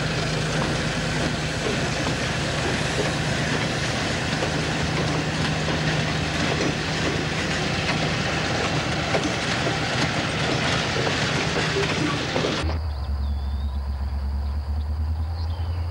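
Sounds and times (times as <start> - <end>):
diesel locomotive engine drone: 0.0 - 15.9
train wheels on rails: 0.0 - 15.9.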